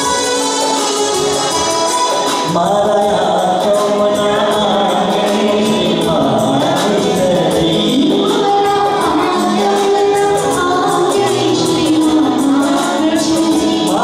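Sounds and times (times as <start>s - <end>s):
electronic keyboard: 0.0s - 14.0s
man singing: 2.3s - 14.0s.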